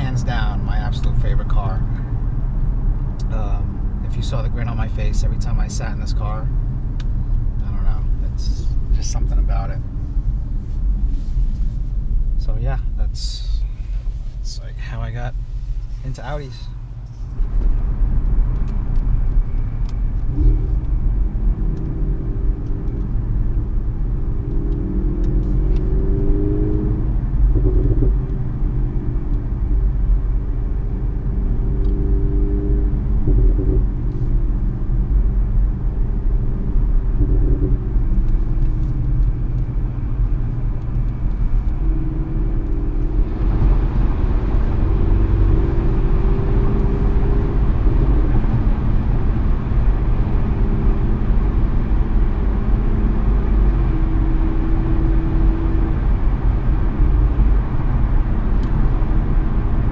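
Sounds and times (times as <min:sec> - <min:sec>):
car engine droning: 0:00.0 - 0:59.9
tyre and road noise: 0:00.0 - 0:59.9.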